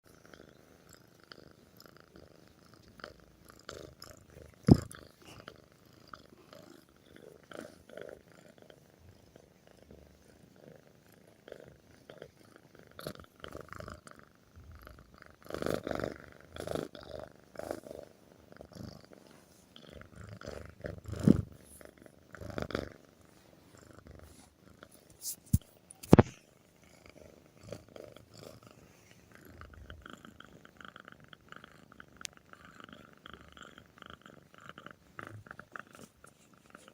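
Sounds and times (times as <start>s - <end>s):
cat purring loudly: 0.1s - 25.1s, 26.3s - 36.9s.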